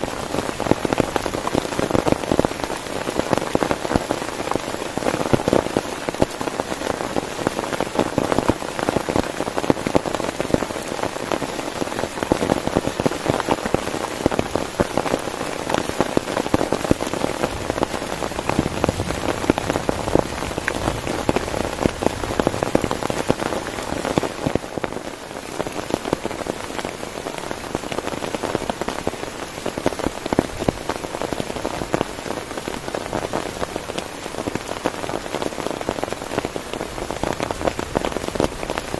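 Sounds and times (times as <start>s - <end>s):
heavy rain drumming on a tent: 0.0s - 38.9s.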